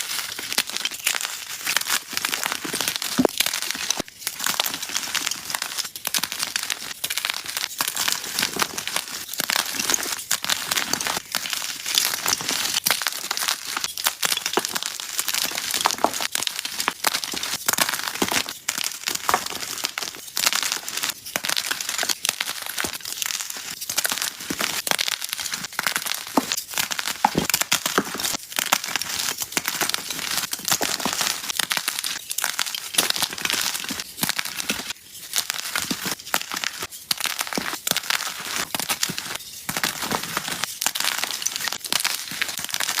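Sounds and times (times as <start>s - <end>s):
chalk crunching and crackling: 0.0s - 43.0s.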